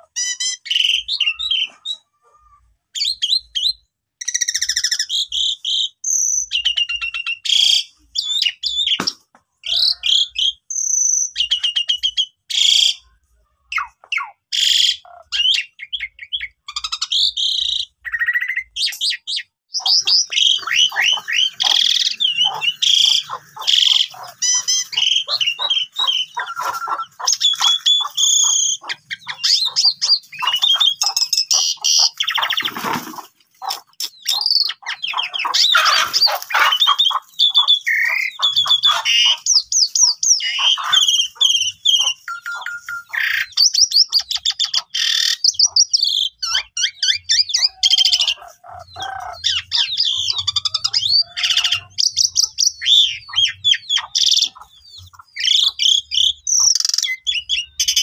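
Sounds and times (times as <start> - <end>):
starling singing: 0.0 - 58.0.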